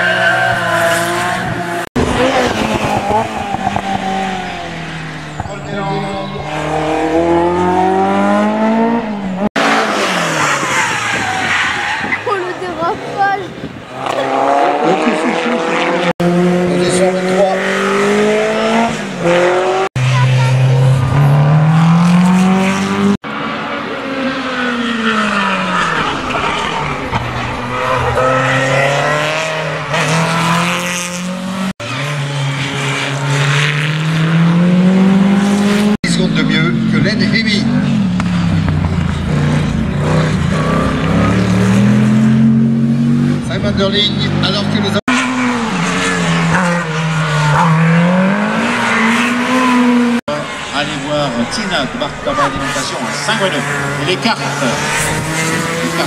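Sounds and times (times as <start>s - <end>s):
racing car engine accelerating: 0.3s - 11.9s, 13.9s - 56.0s.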